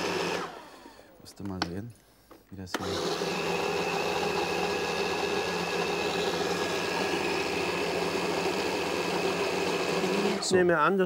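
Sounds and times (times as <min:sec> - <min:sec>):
blender motor whining: 0:00.0 - 0:01.0, 0:02.7 - 0:10.7.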